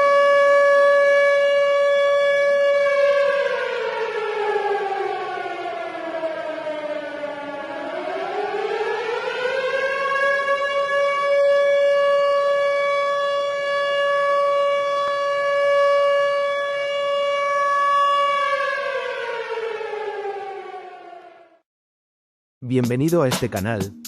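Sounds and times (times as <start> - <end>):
tornado siren: 0.0 - 21.6.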